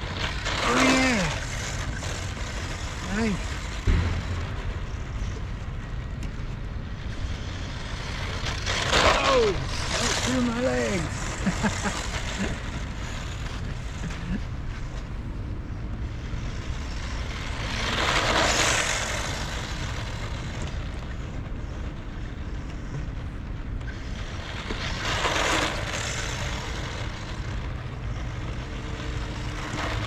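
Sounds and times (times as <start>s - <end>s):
rc truck motor and tyre noise: 0.0s - 30.0s
wind rumble on microphone: 0.0s - 30.0s.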